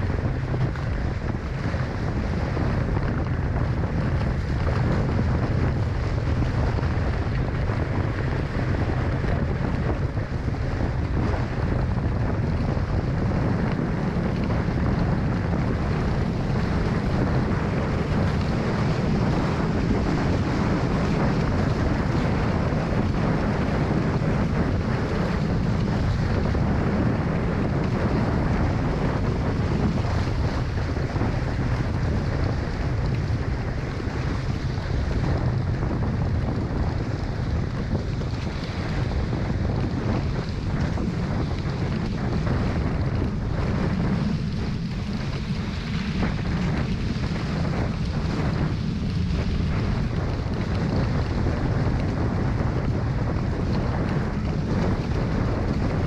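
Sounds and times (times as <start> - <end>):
water rushing along hulls: 0.0 - 56.0
wind buffeting the microphone: 0.0 - 56.0.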